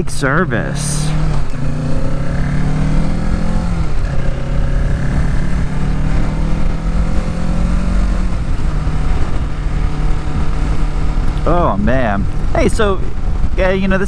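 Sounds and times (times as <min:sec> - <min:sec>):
motorcycle engine running: 0:00.0 - 0:14.0
wind rumble on microphone: 0:01.1 - 0:14.0.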